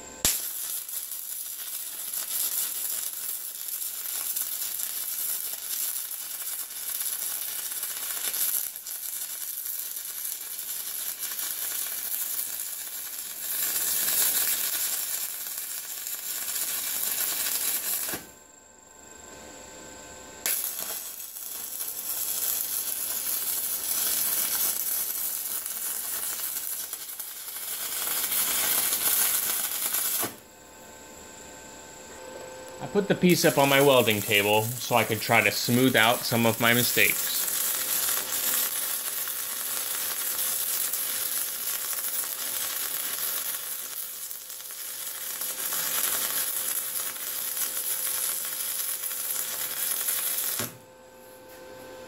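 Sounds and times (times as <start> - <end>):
welding arc crackling: 0.0 - 50.8.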